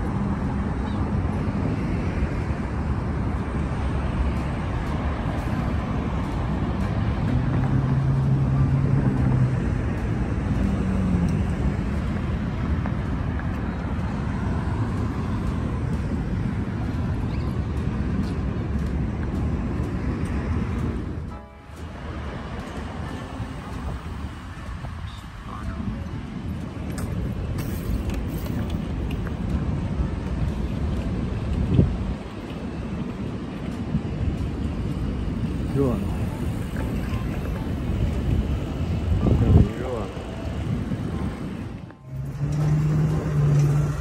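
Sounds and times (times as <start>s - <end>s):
city traffic rumble: 0.0s - 44.0s
vehicle engine hum: 0.0s - 44.0s.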